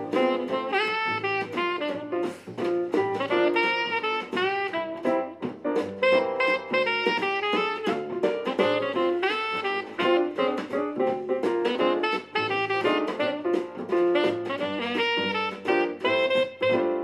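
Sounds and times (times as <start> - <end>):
light drum beat: 0.0 - 17.0
saxophone melody: 0.0 - 17.0.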